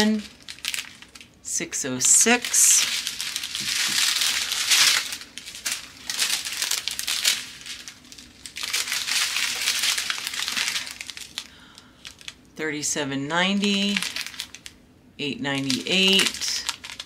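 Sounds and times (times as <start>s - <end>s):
plastic bags crinkling: 0.0s - 12.5s, 13.6s - 14.8s, 15.5s - 17.0s.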